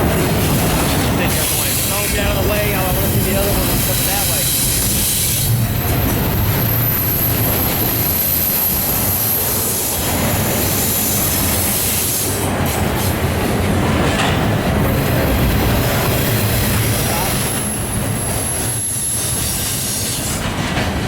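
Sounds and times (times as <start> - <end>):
train wheels clattering on rail: 0.0 - 21.0.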